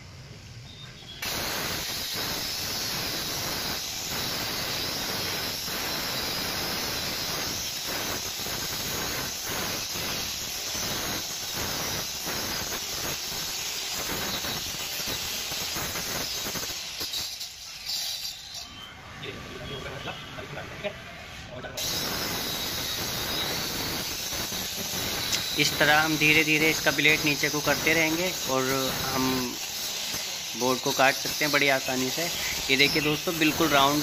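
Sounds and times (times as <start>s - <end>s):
electric cutter cutting plywood: 1.2s - 19.4s, 21.8s - 34.0s.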